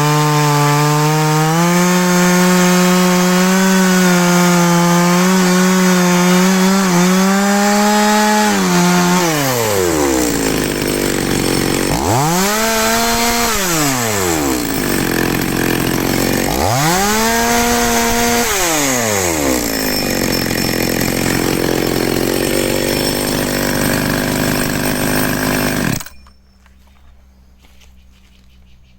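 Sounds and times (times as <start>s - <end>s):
chainsaw engine revving and idling: 0.0s - 26.2s.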